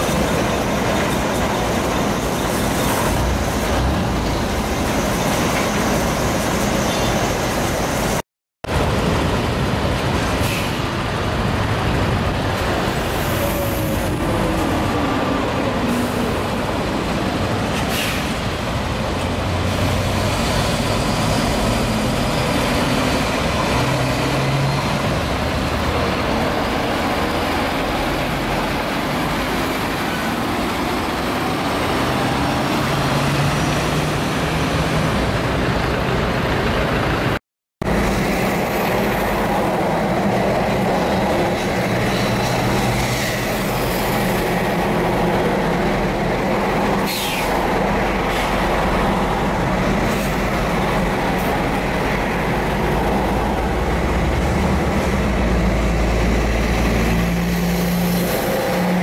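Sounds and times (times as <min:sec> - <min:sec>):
heavy vehicle engine and road noise: 0:00.0 - 0:59.0.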